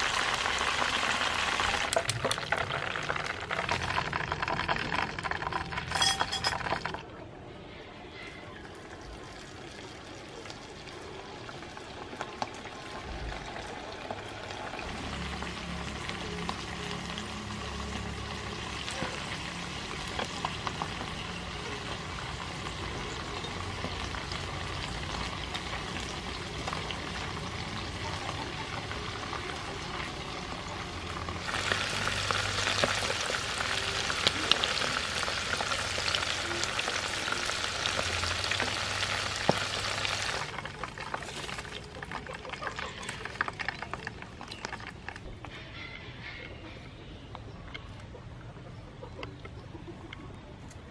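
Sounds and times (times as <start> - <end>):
shrimp deep-frying in oil: 0.0 - 7.2, 8.5 - 45.6.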